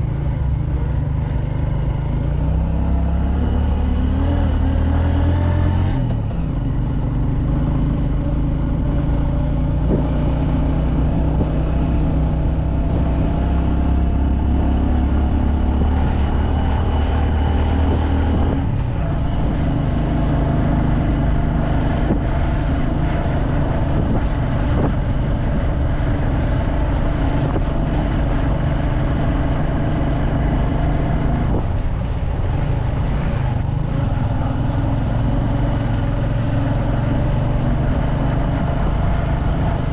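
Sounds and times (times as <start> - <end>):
road noise: 0.0 - 39.9
vehicle engine running: 5.2 - 39.9.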